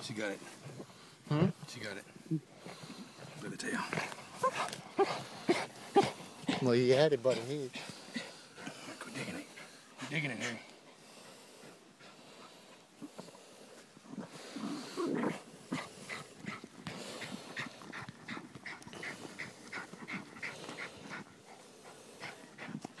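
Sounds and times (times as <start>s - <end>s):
dog breathing hard and sniffing: 0.2s - 23.0s
dog digging: 2.6s - 10.6s, 11.3s - 23.0s
dog huffing: 2.6s - 13.4s, 14.1s - 23.0s.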